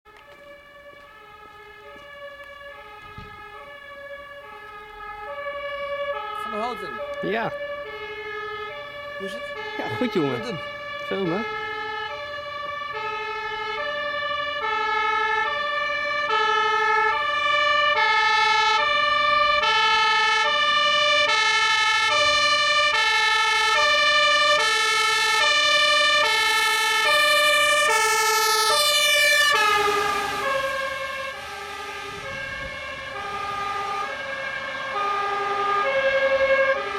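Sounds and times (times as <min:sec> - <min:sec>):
fire engine two-tone siren: 0:00.0 - 0:36.9.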